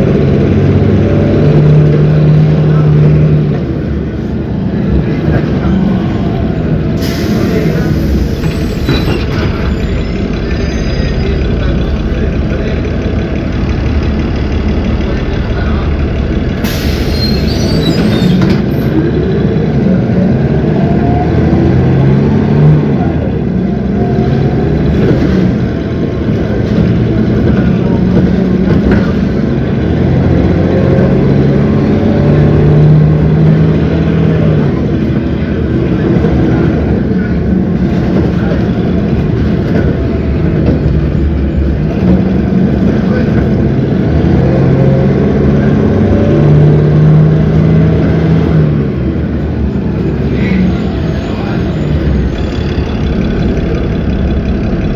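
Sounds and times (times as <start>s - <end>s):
bus diesel engine running: 0.0s - 54.9s.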